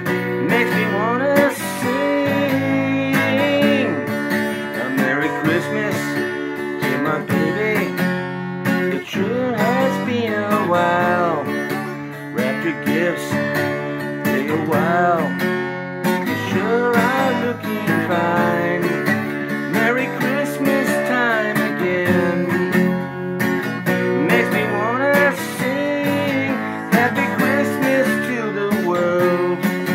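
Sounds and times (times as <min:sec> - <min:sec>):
strummed acoustic guitar: 0:00.0 - 0:29.9.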